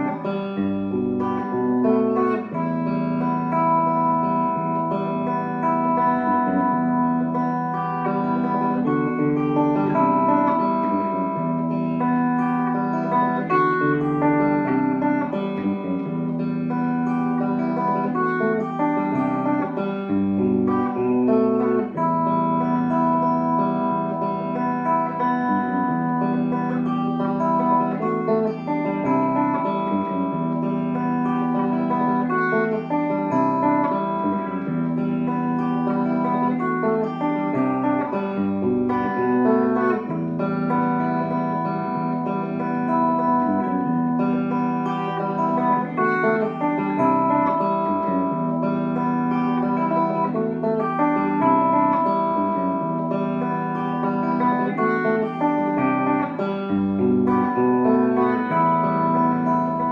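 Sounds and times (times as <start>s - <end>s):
electric guitar chords and notes: 0.0s - 59.9s.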